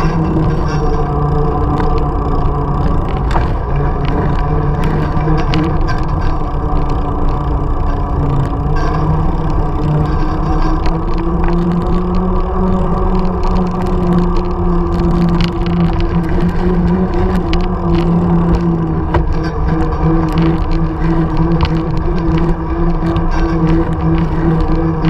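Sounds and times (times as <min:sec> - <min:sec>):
bike rattles: 0:00.0 - 0:25.0
bike tyres humming on asphalt: 0:00.0 - 0:25.0
wind rumble on microphone: 0:00.0 - 0:25.0.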